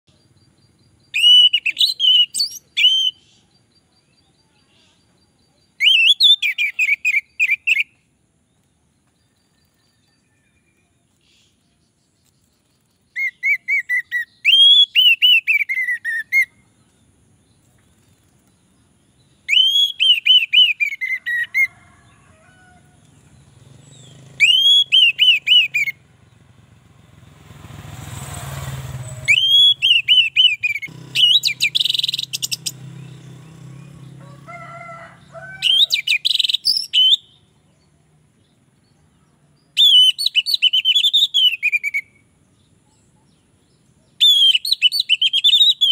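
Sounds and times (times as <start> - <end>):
thrush singing whistled notes: 0.1 - 8.1, 9.4 - 16.7, 18.8 - 21.7, 23.2 - 34.2, 35.2 - 37.6, 39.6 - 45.9.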